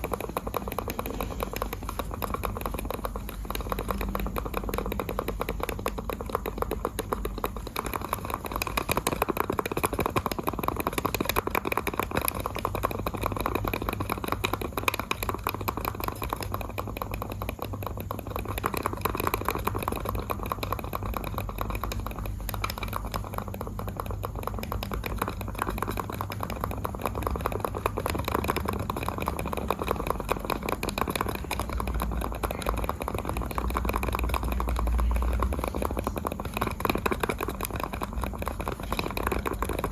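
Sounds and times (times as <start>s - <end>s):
mouse buttons clicking rapidly: 0.0s - 39.9s
steady low hum: 0.0s - 39.9s.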